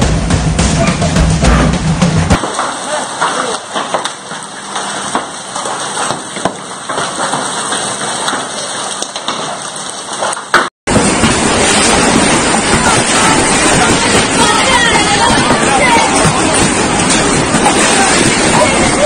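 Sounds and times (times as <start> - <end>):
hail and heavy rain pelting: 2.4 - 19.0.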